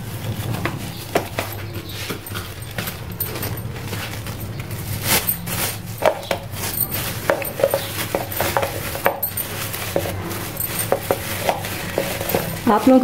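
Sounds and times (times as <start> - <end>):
plastic bag rustling and crinkling: 0.0 - 13.0.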